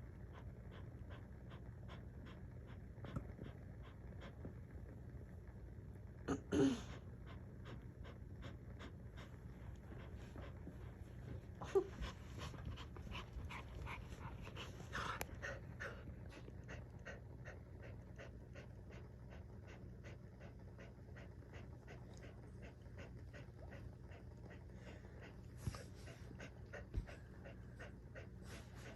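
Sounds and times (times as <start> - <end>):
dog panting hard: 0.0 - 4.6, 7.0 - 28.9.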